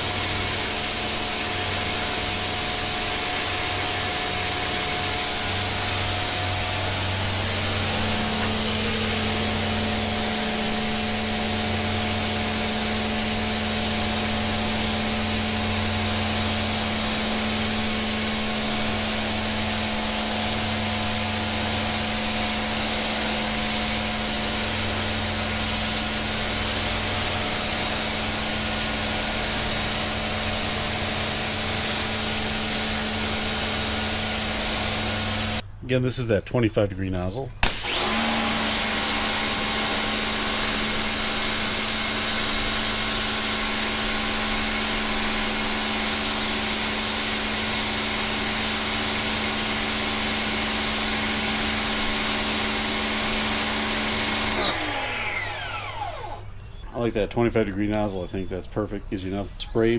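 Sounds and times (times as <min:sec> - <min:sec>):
high-pressure water spray hissing: 0:00.0 - 0:35.6, 0:37.6 - 0:54.6
motor and pump humming: 0:00.0 - 0:35.6, 0:37.6 - 0:56.9.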